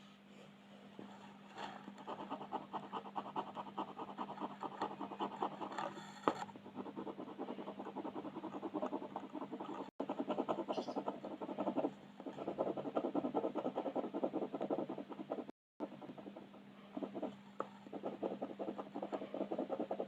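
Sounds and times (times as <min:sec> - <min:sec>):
colouring strokes scratching on paper: 0:01.0 - 0:20.0.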